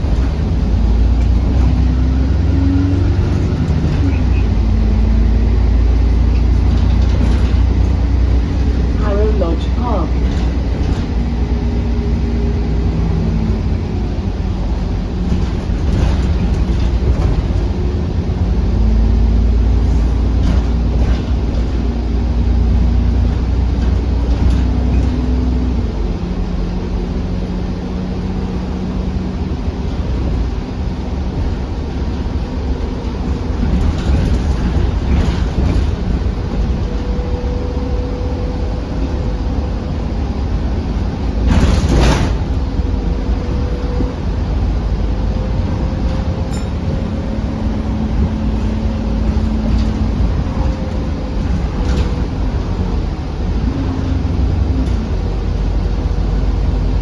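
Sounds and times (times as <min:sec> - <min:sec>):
bus engine rumble: 0:00.0 - 0:57.0
drivetrain whine: 0:00.0 - 0:57.0.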